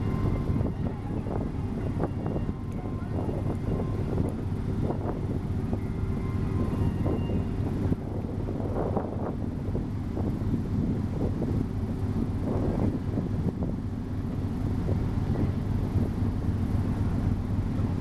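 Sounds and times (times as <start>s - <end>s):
ferry engines rumbling: 0.0s - 18.0s
wind buffeting microphone: 0.0s - 18.0s.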